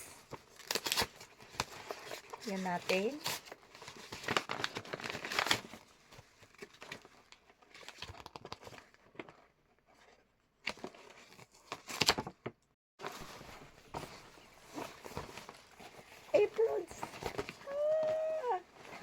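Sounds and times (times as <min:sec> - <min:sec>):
gift wrapping crinkling and tearing: 0:00.2 - 0:12.4, 0:13.0 - 0:19.0.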